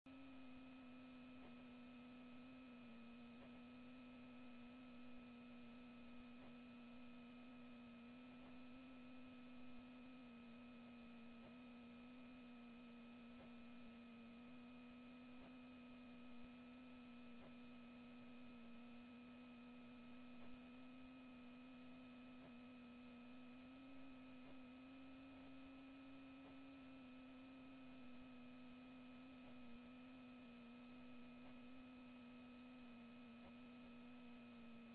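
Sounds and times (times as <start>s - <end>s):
faint low hum: 0.1s - 34.9s
faint ticks: 3.1s - 12.6s, 13.2s - 34.7s.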